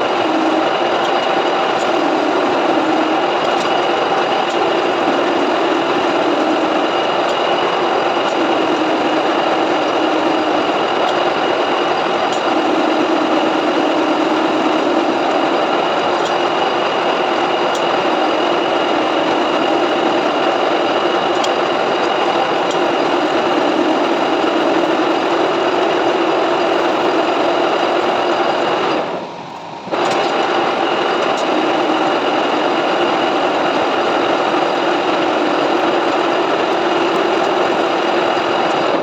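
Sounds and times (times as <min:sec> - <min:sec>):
metal lathe running: 0:00.0 - 0:39.0.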